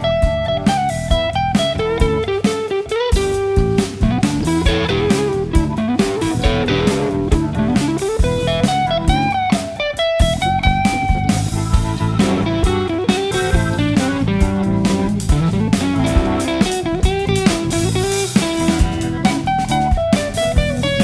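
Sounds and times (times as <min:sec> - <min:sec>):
bass: 0:00.0 - 0:21.0
drum kit beat: 0:00.0 - 0:21.0
electric guitar: 0:00.0 - 0:21.0.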